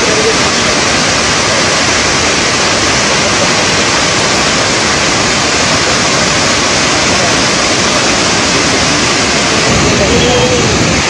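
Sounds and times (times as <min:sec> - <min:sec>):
water rushing through spillway: 0:00.0 - 0:11.0.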